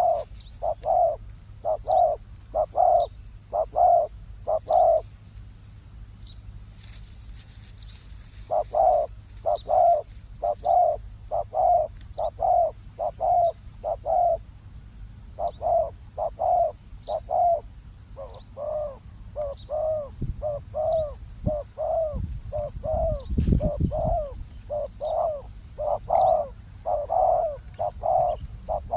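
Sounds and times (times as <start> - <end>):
doves cooing: 0.0 - 5.1, 8.3 - 14.5, 15.3 - 28.9.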